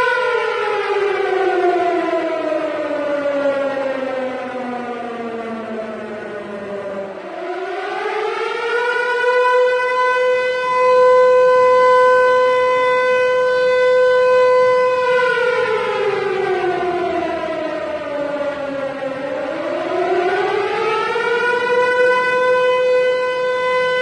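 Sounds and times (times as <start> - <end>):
civil defense siren wailing: 0.0 - 24.0.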